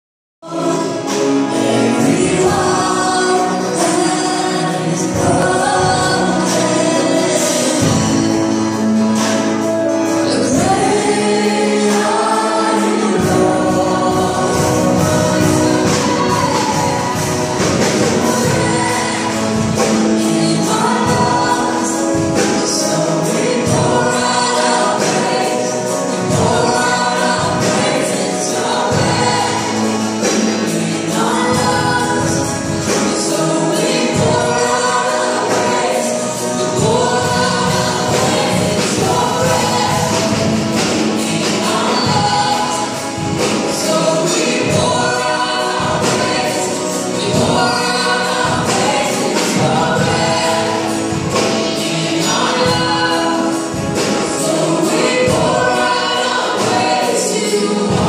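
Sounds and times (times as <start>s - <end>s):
congregation singing: 0.4s - 58.0s.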